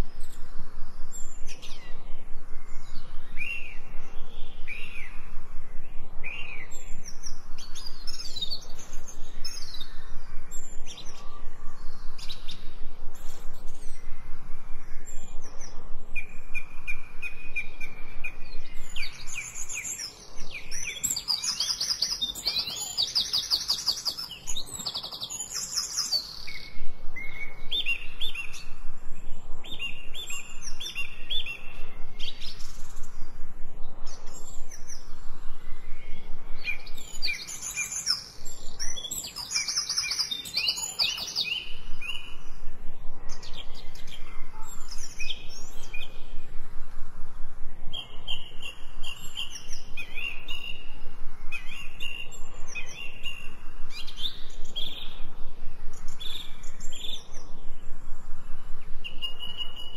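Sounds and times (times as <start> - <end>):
songbirds chirping and singing: 0.0 - 46.6, 47.6 - 59.9.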